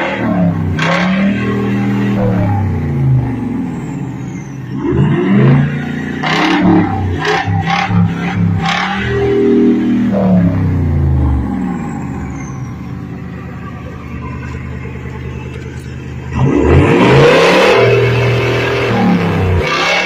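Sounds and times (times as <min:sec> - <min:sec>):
engine revving and idling: 0:00.0 - 0:20.0.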